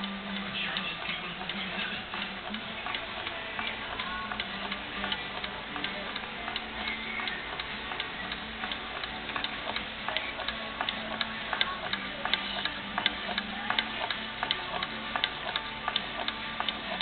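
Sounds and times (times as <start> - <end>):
small engine clicking: 0.0 - 17.0.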